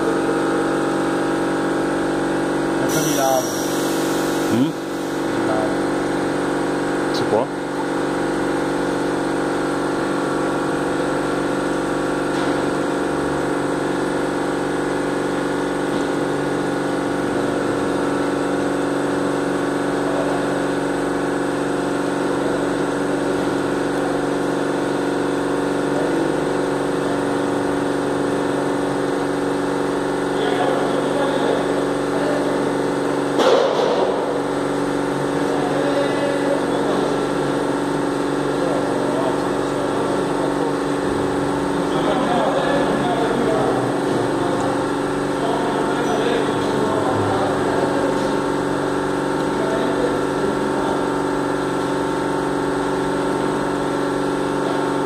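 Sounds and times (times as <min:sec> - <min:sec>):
pump machine hum: 0:00.0 - 0:55.0.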